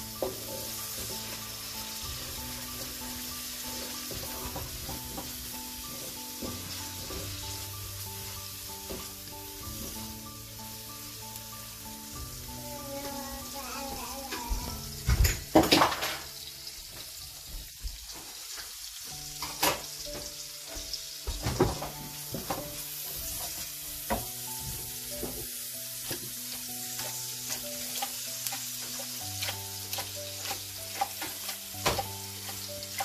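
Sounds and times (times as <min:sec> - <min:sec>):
soft background music: 0:00.0 - 0:33.0
vegetables sizzling in oil: 0:00.0 - 0:33.0.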